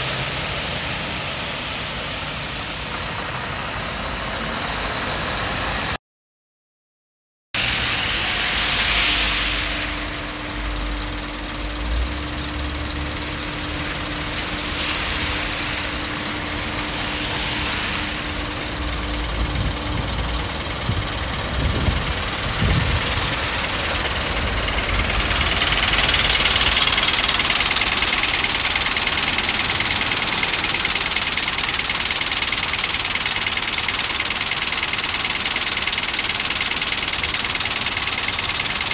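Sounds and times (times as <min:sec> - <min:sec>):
diesel engine idling: 0:00.0 - 0:06.0, 0:07.6 - 0:38.9.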